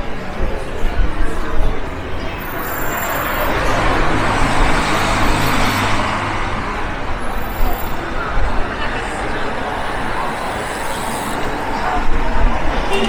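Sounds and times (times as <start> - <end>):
vehicle passing close by: 2.0 - 12.8.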